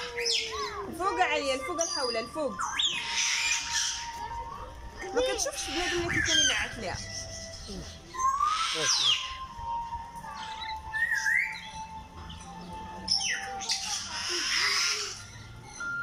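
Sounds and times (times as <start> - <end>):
cockatoos screeching: 0.0 - 12.0, 13.0 - 16.0.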